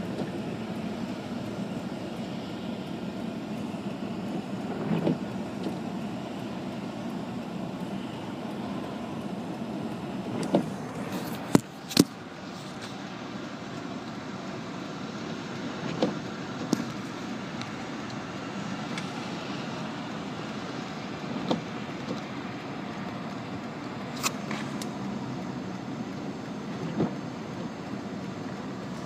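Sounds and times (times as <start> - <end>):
car cabin hum: 0.0 - 29.0.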